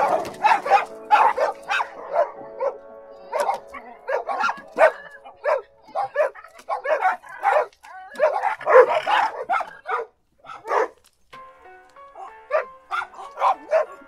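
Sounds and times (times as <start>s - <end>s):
dog barking: 0.0s - 11.0s, 12.2s - 14.0s.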